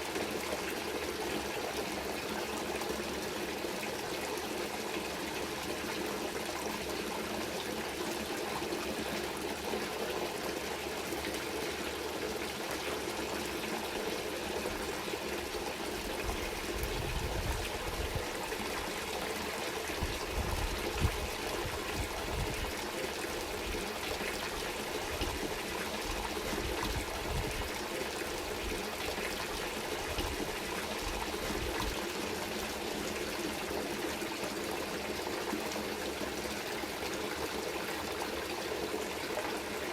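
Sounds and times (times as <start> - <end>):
water trickling and flowing: 0.0 - 39.9.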